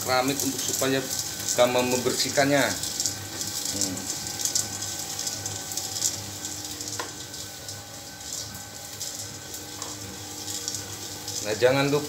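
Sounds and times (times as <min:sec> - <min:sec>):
oil sizzling hiss: 0:00.0 - 0:12.0
stirring motor hum: 0:00.0 - 0:12.0.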